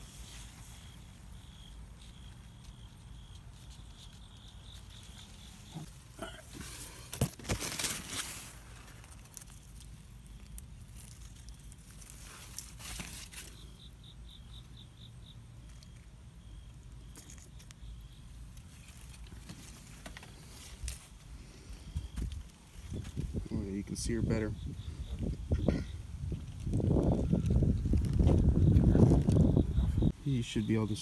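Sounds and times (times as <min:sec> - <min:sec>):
high insect chirp: 0:00.0 - 0:07.0, 0:07.7 - 0:31.0
leaves and stems rustling: 0:00.0 - 0:14.1, 0:15.5 - 0:31.0.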